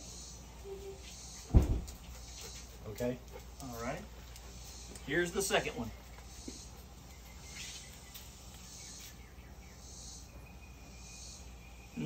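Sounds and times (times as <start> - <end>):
insects chirping: 0.0 - 12.0
outdoor background noise: 0.0 - 12.0.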